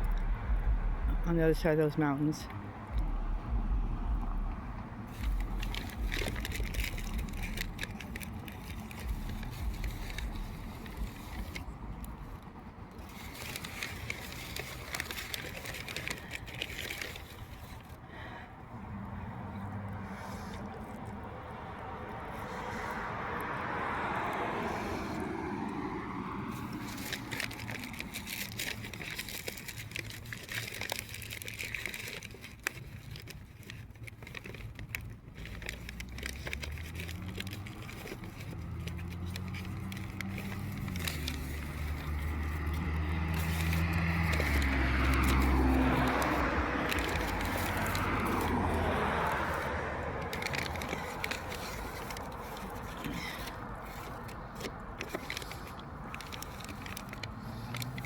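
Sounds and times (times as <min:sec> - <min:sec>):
vehicle passing by: 0:00.0 - 0:58.0
engine pulling away through gears: 0:02.8 - 0:17.6, 0:21.1 - 0:58.0.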